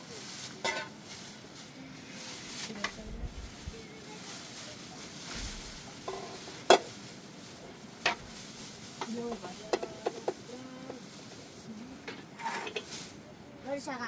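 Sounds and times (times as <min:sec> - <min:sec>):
steady hiss: 0:00.0 - 0:11.8.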